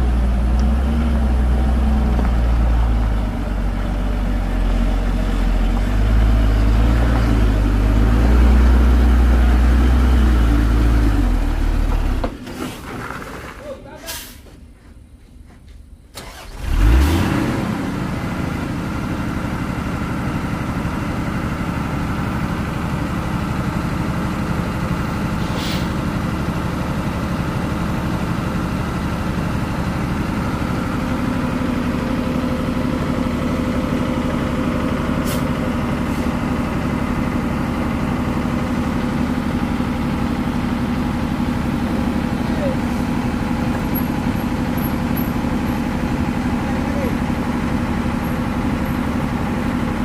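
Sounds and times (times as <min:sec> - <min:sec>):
diesel truck engine starting: 0:00.0 - 0:14.4, 0:16.1 - 0:50.0.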